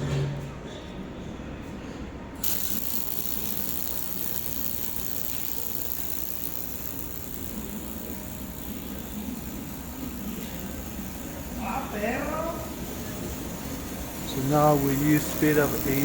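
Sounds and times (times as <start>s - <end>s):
low machine hum: 0.0s - 16.0s
welding gas hissing: 2.4s - 16.0s.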